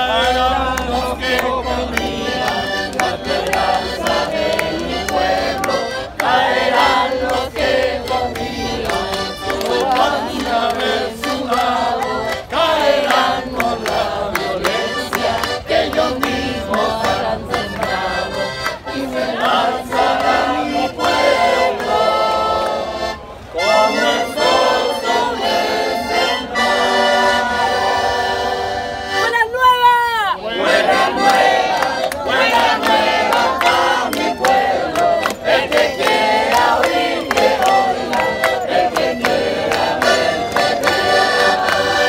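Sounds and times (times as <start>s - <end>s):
piano accordion playing: 0.0s - 29.5s, 30.6s - 42.0s
voices singing: 0.0s - 42.0s.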